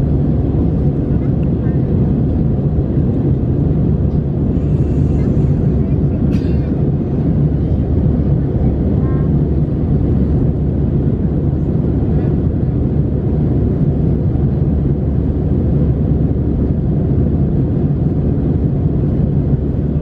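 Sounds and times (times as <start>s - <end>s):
airplane cabin roar: 0.0s - 20.0s.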